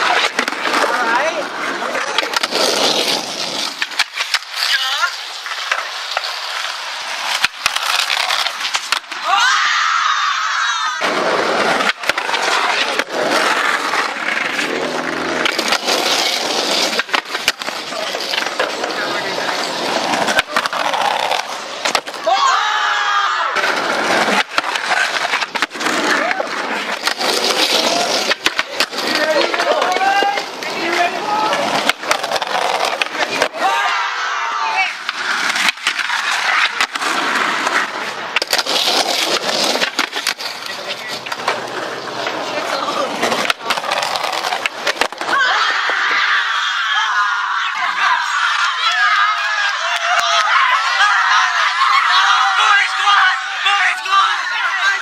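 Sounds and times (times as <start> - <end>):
skateboard trucks grinding ledge: 0.0 - 9.4, 11.0 - 22.6, 23.4 - 46.6
skateboard wheels rolling on concrete: 0.0 - 55.0.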